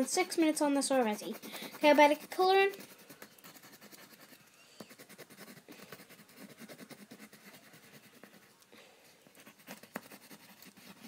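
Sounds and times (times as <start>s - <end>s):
pencil scratching on paper: 0.0s - 8.6s, 9.3s - 11.0s.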